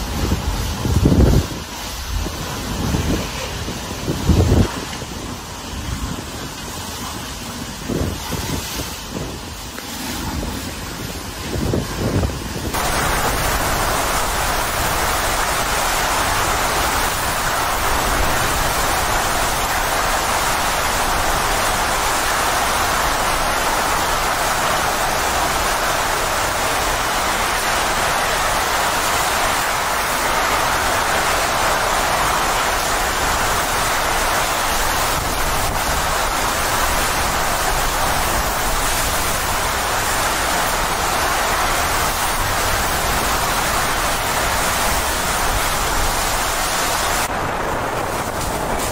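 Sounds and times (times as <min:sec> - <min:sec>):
heavy rain: 0:00.0 - 0:48.9
low rumble of wind buffeting: 0:00.0 - 0:48.9
strong wind rushing: 0:00.0 - 0:48.9.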